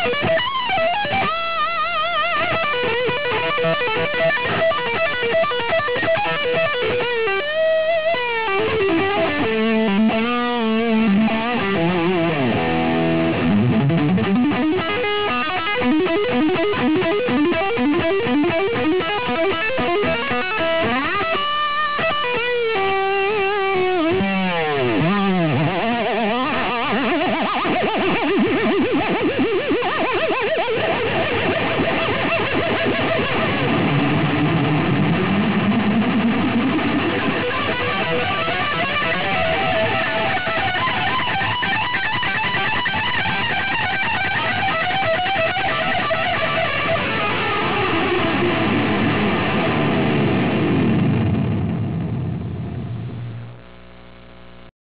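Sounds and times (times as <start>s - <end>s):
electric guitar lead: 0.0s - 53.7s.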